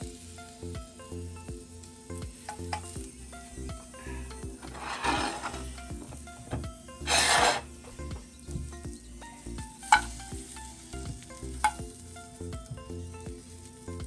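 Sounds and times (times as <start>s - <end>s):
potatoes sizzling in a frying pan: 0.0s - 14.0s.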